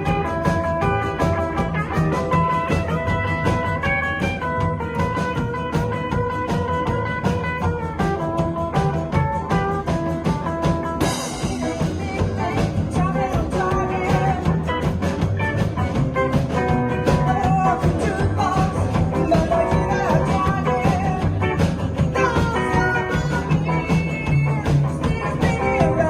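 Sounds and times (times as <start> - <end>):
driving drum beat: 0.0 - 26.0
rock and roll band playing: 0.0 - 26.0.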